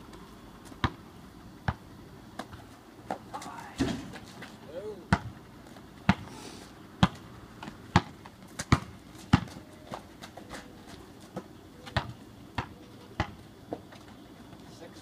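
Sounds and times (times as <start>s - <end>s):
basketball bouncing on asphalt: 0.1s - 4.5s, 5.1s - 6.3s, 6.9s - 10.6s, 11.2s - 14.1s.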